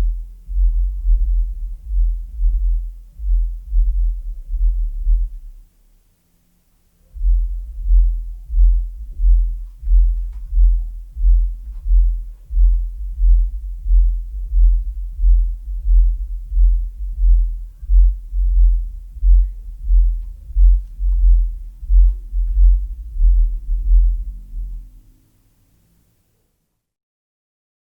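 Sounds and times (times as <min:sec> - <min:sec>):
subwoofer bass pulses: 0:00.0 - 0:05.7, 0:07.1 - 0:25.2.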